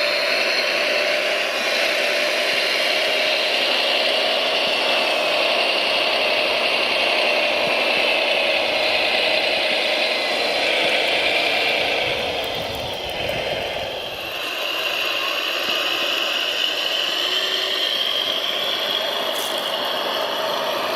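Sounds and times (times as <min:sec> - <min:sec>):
mechanical whine: 0:00.0 - 0:20.9.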